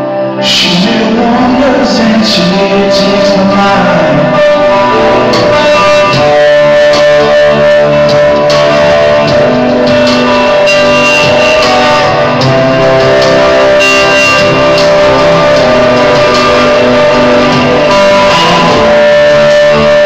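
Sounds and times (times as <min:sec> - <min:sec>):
loud rock music over speakers: 0:00.0 - 0:20.0.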